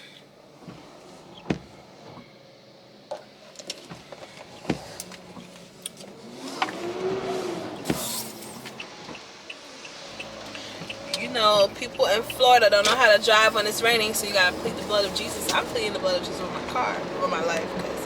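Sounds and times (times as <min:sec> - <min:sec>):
low steady car interior noise: 0:00.0 - 0:18.0.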